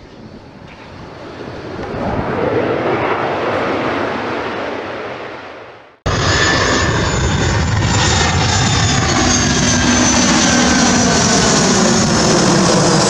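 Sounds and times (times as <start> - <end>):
airliner engines rumbling: 0.0 - 13.0
jet passing: 0.2 - 13.0.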